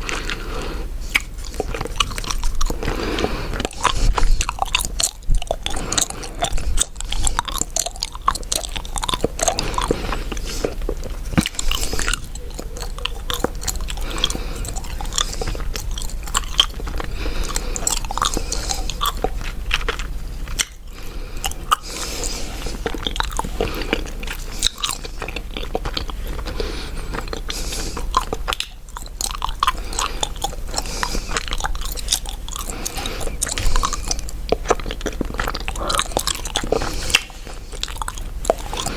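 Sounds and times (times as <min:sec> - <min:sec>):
gum chewing clicks: 0:00.0 - 0:38.9.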